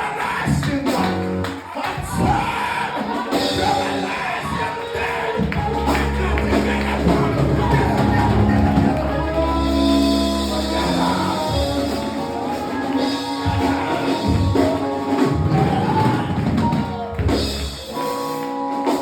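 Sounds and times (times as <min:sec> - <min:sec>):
organ chords: 0:00.0 - 0:19.0
drum kit hits: 0:03.2 - 0:19.0.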